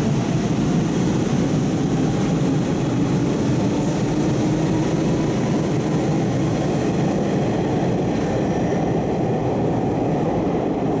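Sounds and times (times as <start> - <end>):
electric train rumbling on track: 0.0 - 11.0.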